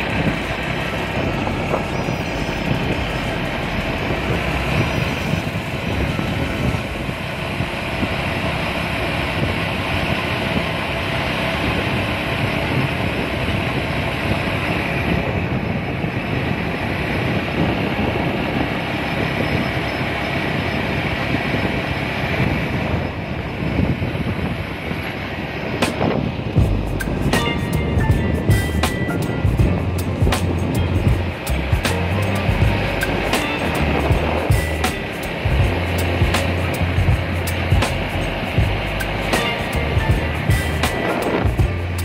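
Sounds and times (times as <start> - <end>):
motorcycle engine: 0.0 - 42.0
road noise: 0.0 - 42.0
wind buffeting microphone: 0.0 - 42.0.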